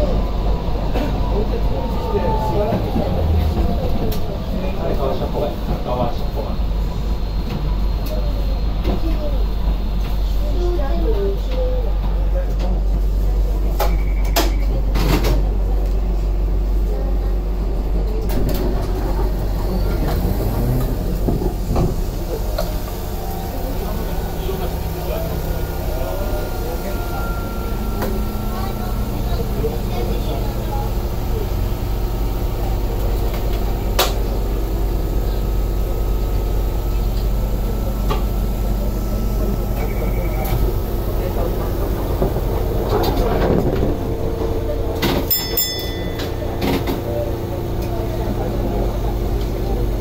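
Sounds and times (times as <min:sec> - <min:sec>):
low hum inside tram: 0:00.0 - 0:50.0.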